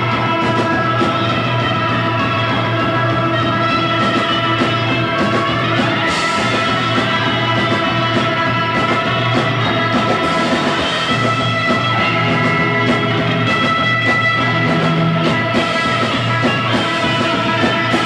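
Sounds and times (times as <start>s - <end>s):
bass guitar: 0.0s - 18.0s
drums with cymbal strokes: 0.0s - 18.0s
electric guitar: 0.0s - 18.0s.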